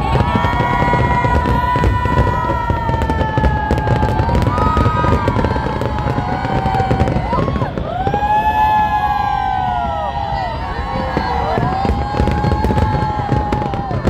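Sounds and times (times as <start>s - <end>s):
firework whistles: 0.0s - 14.0s
fireworks crackling and booming: 0.0s - 14.0s.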